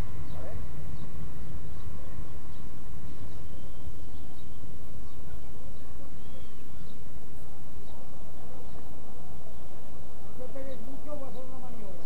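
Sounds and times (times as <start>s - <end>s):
faint bird chirps: 0.0s - 12.0s
steady low rumble: 0.0s - 12.0s.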